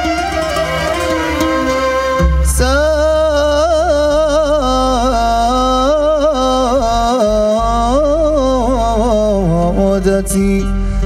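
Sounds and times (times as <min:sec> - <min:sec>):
man singing wordless melismatic line: 0:00.0 - 0:11.0.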